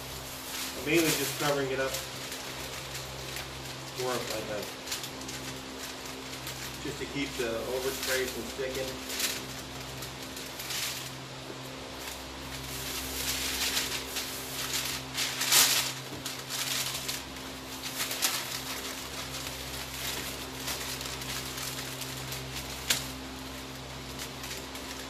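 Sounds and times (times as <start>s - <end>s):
masking paper rustling: 0.0s - 25.0s
steady low hum: 0.0s - 25.0s.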